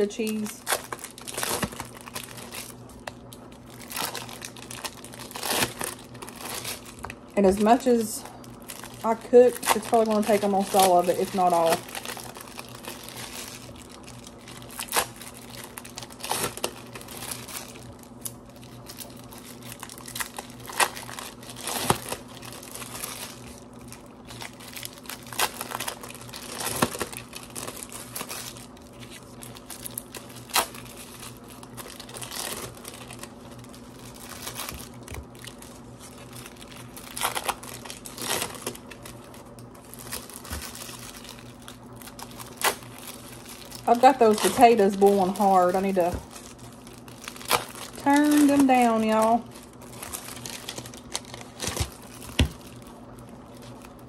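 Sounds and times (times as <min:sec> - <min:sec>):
plastic wrappers crinkling: 0:00.0 - 0:54.0.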